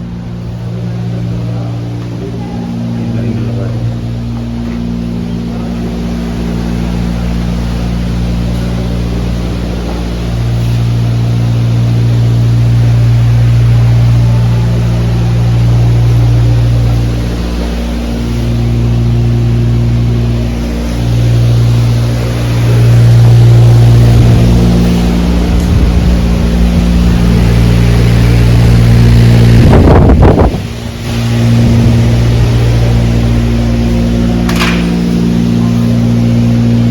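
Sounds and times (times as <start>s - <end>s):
loud machinery hum: 0.0s - 36.9s.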